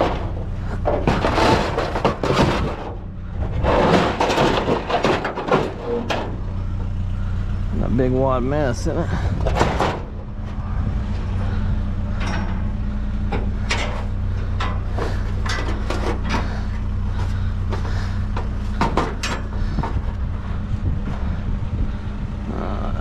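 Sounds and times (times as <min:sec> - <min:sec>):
scrap clanking in a dumpster: 0:00.0 - 0:23.0
vehicle engine idling: 0:00.0 - 0:23.0.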